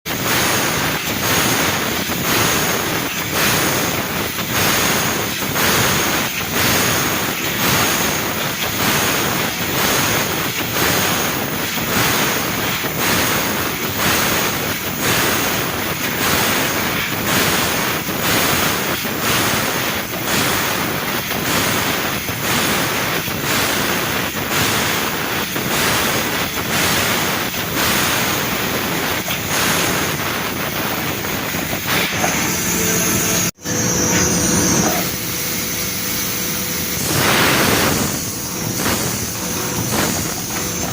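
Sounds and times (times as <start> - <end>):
laser cutting machine hissing: 0.1 - 40.9.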